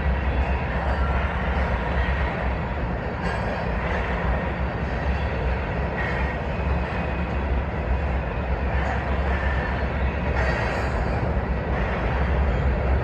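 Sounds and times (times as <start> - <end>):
diesel locomotive engines rumbling: 0.0 - 13.0
train wheels on rails: 0.0 - 13.0.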